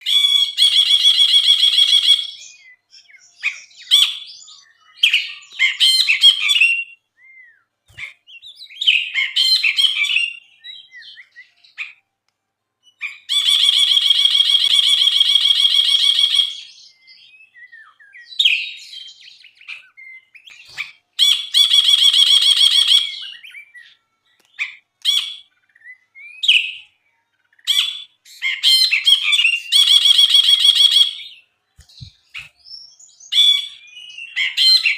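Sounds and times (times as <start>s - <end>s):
bird singing chirps and whistles: 0.0s - 12.0s, 12.8s - 34.9s.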